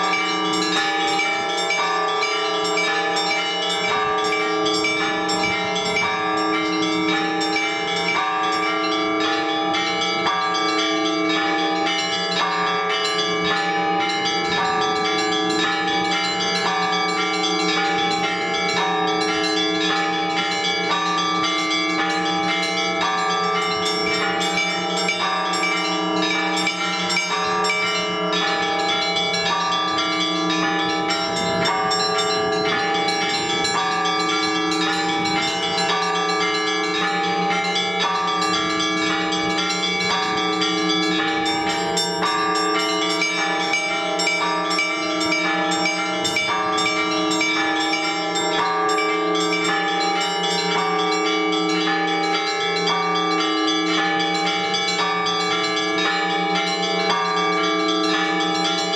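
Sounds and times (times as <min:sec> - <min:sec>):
large bells humming: 0:00.0 - 0:58.9
small church bells rapid strokes: 0:00.0 - 0:58.9.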